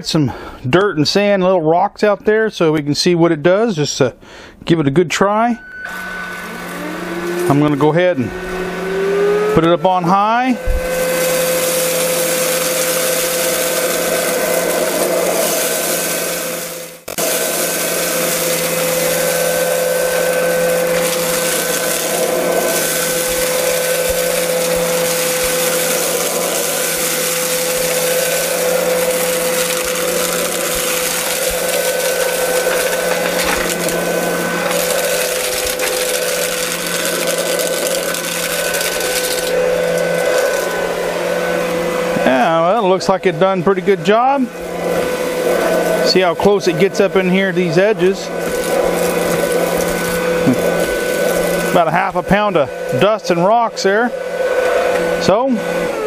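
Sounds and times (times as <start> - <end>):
stick vacuum motor whine: 5.1 - 56.0
vacuum sucking up sand and rocks: 5.9 - 53.7.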